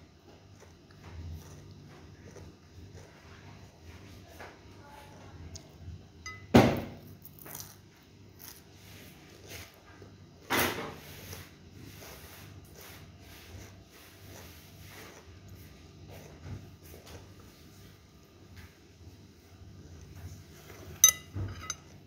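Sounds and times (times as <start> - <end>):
soft chewing: 0.0 - 6.5, 7.2 - 10.5, 11.1 - 21.1.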